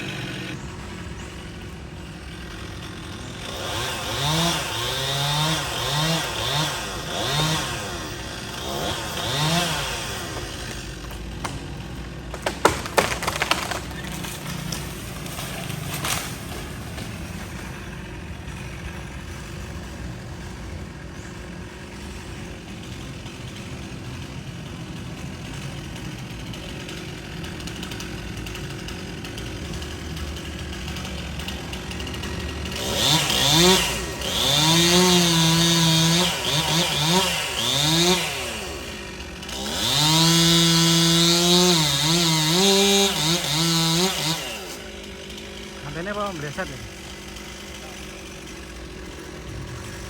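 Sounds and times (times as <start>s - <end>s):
chainsaw revving: 0.0s - 50.0s.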